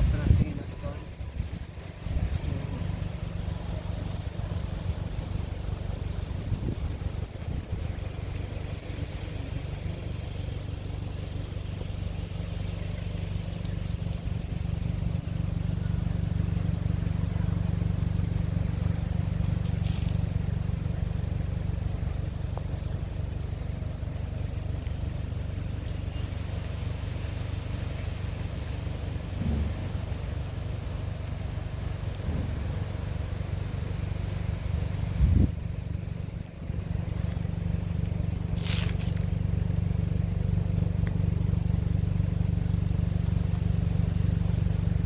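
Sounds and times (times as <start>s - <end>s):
car engine droning: 0.0s - 45.0s.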